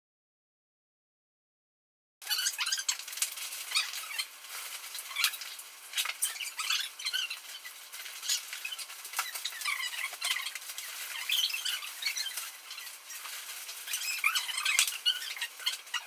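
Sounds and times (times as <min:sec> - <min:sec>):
plastic bags rustling: 0:02.2 - 0:16.0.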